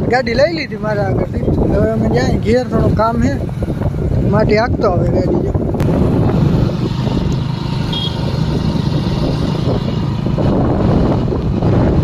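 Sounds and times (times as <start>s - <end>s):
wind buffeting microphone: 0.0s - 12.0s
motorcycle engine running: 1.6s - 12.0s.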